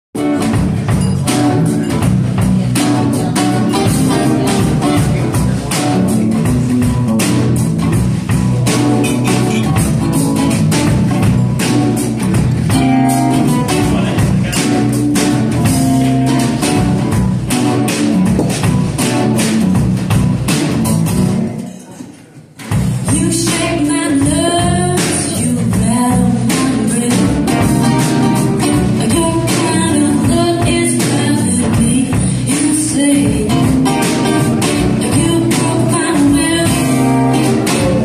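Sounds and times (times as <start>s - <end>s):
live concert music with beat: 0.2s - 21.6s, 22.6s - 38.0s.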